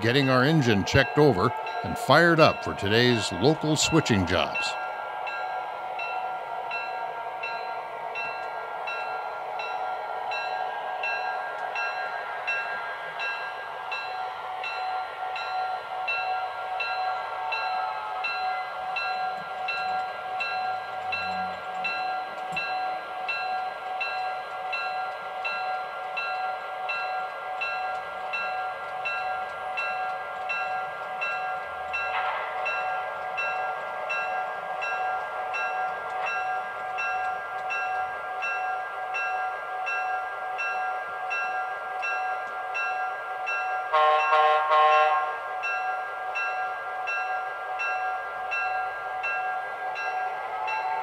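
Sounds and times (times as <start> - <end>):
locomotive bell ringing: 0.0 - 51.0.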